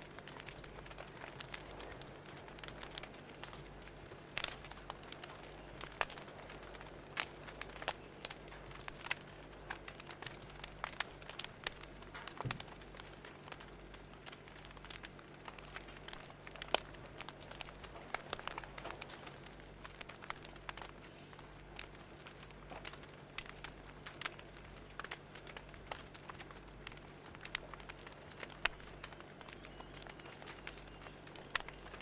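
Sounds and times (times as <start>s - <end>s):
fire crackling: 0.0s - 32.0s.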